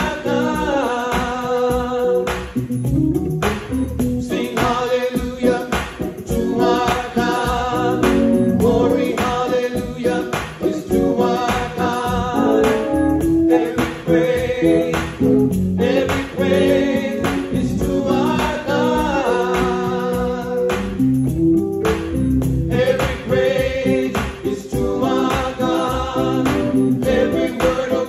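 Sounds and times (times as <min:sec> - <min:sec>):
men singing gospel in harmony: 0:00.0 - 0:02.6, 0:04.2 - 0:21.1, 0:22.7 - 0:28.0
keyboard: 0:00.0 - 0:28.0.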